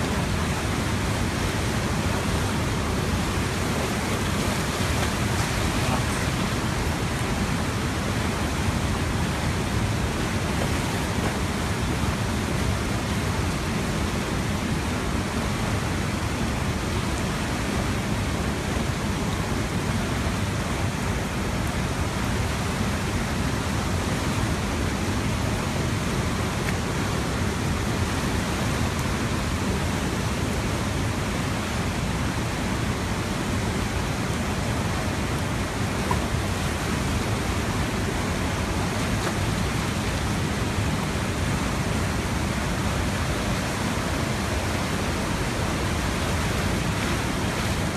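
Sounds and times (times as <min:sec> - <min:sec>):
flood water rushing: 0:00.0 - 0:47.9.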